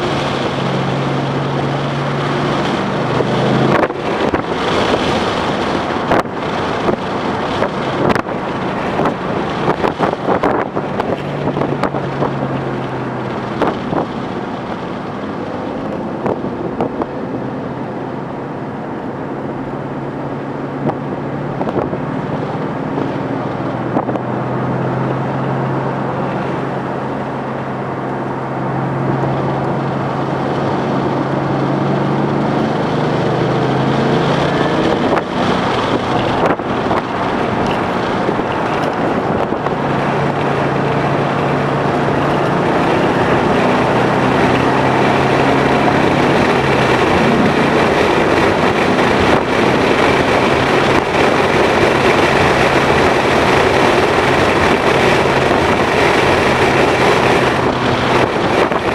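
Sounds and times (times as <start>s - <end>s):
car engine running hard: 0.0s - 58.9s
wind noise on microphone: 0.0s - 58.9s.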